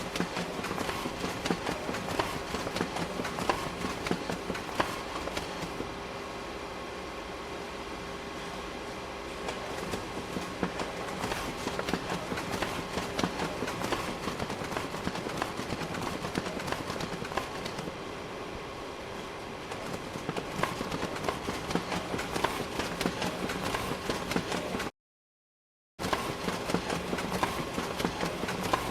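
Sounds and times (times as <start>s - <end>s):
photocopier running: 0.0s - 6.4s, 8.4s - 24.9s, 26.0s - 28.9s.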